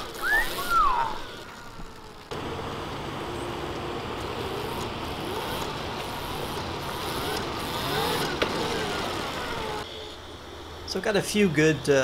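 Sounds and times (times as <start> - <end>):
electric motor whine: 0.0 - 10.3
motor and drivetrain hum: 0.0 - 12.0.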